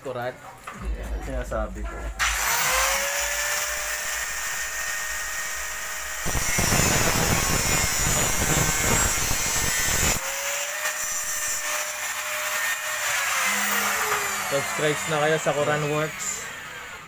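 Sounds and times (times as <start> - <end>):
angle grinder whining: 2.2 - 17.0
grinder cutting steel bolt: 2.2 - 17.0.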